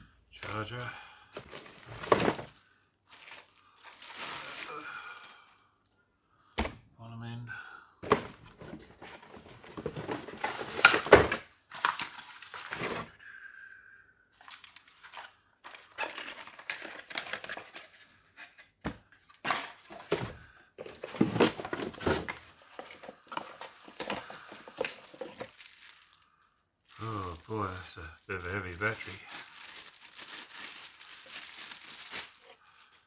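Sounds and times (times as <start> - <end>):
packaging crinkling and rustling: 0.4 - 5.5, 8.2 - 13.2, 14.4 - 33.0.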